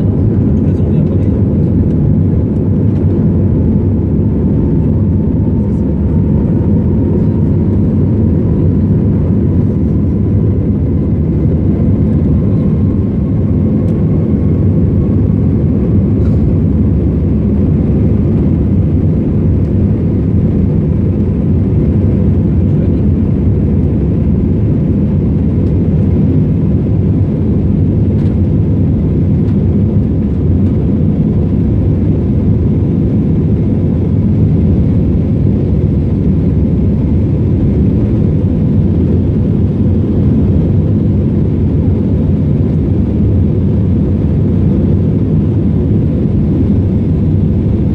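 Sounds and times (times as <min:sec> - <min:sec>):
aircraft engines and airflow rumble: 0:00.0 - 0:47.9.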